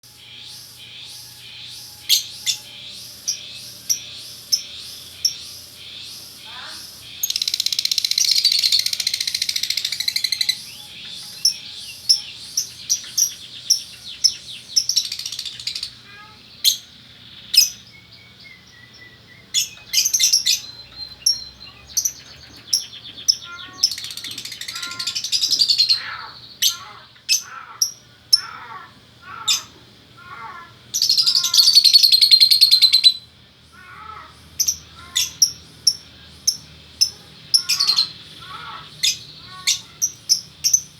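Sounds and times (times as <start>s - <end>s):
shrill bird chirps: 0.1s - 40.9s
fast rattling bird chatter: 2.1s - 17.9s, 19.6s - 40.9s.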